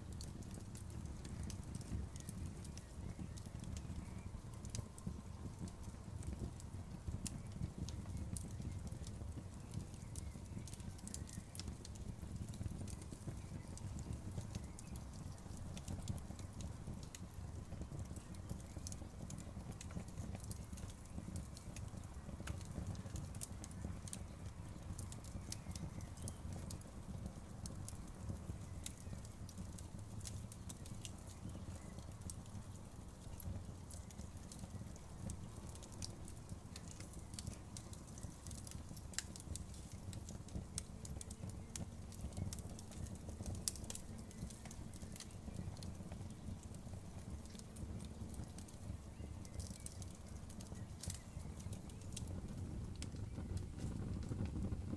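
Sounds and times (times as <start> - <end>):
campfire wood crackling and popping: 0.0 - 54.9.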